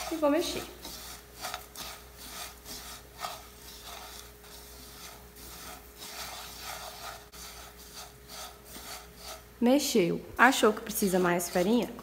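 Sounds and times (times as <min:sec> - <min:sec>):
spatula scraping frying pan: 0:00.0 - 0:12.0.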